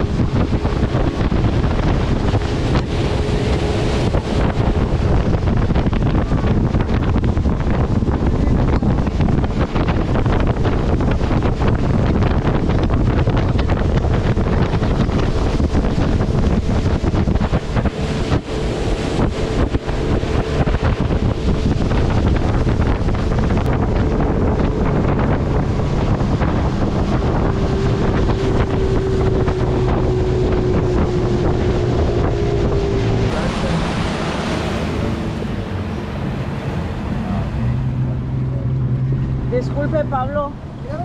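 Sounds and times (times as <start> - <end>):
motorboat engine running: 0.0 - 41.0
water rushing past hull: 0.0 - 41.0
wind buffeting microphone: 0.0 - 41.0.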